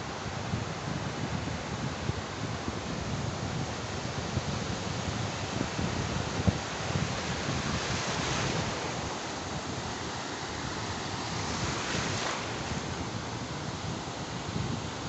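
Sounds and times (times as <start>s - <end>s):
sea surf breaking on sand: 0.0s - 15.0s
wind buffeting microphone: 0.1s - 15.0s.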